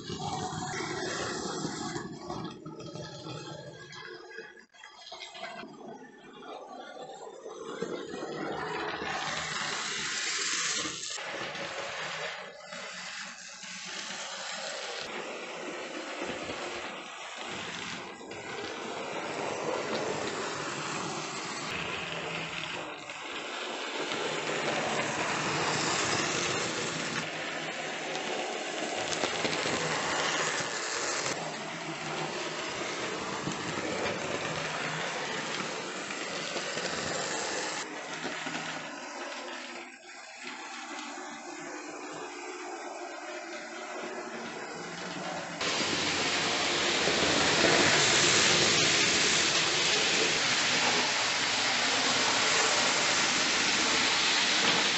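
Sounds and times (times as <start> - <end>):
model train whirring on track: 0.0 - 5.6, 6.3 - 54.9.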